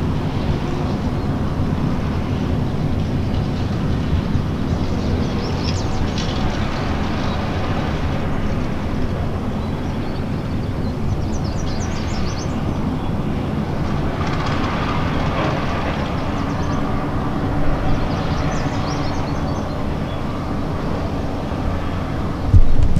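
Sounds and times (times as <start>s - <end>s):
radial aircraft engine running: 0.0s - 22.9s.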